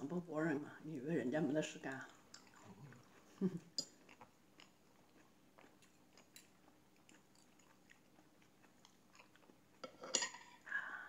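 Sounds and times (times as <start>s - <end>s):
faint chewing: 1.8s - 10.7s.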